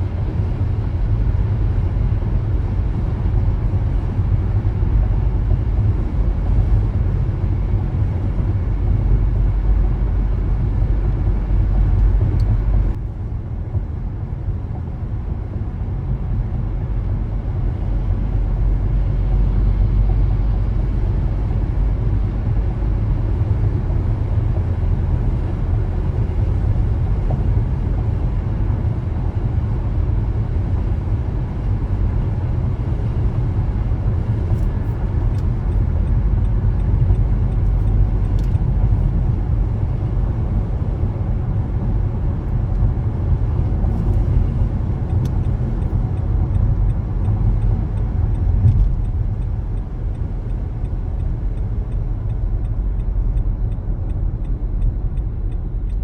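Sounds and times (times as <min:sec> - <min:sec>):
car tyre and engine rumble: 0:00.0 - 0:56.0.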